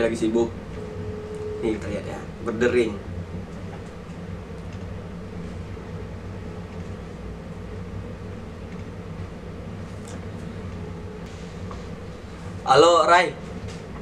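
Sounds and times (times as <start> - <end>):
low hum of room noise: 0.0 - 14.0.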